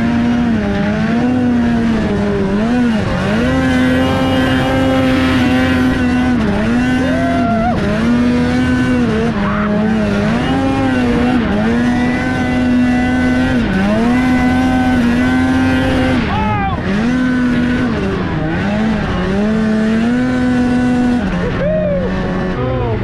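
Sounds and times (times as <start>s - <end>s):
snowmobile engine revving hard: 0.0s - 23.0s.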